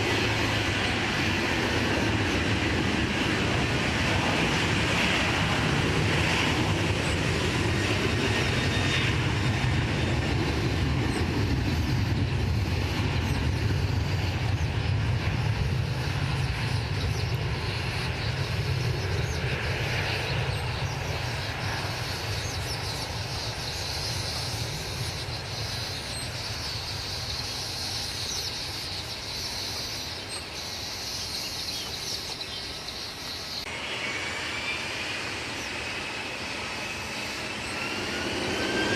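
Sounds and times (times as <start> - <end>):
airliner engine rumble: 0.0 - 38.9.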